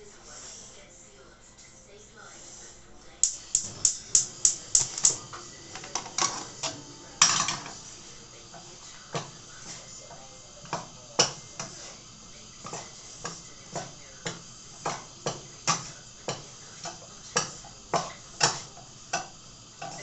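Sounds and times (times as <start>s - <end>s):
spoon scraping cooking pot: 3.5s - 20.0s.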